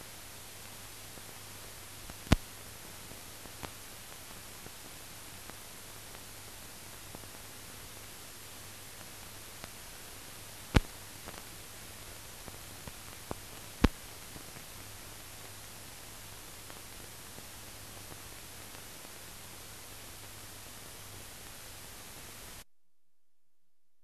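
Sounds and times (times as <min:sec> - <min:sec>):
film transfer hiss: 0:00.0 - 0:22.6.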